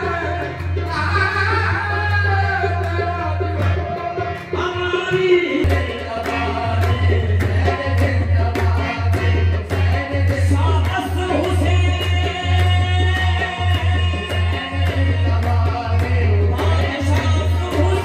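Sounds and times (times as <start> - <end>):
group singing: 0.0 - 18.0
harmonium: 0.0 - 18.0.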